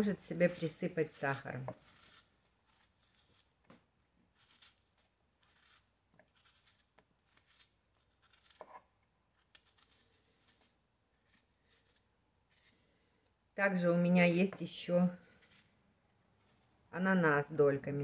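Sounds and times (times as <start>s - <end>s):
knife cutting apple: 0.1s - 13.0s, 14.2s - 16.8s.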